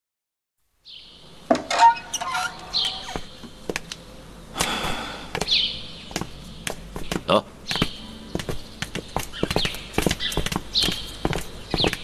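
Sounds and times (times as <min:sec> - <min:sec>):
quiet outdoor ambience: 0:00.6 - 0:12.0
birds chirping: 0:00.8 - 0:12.0.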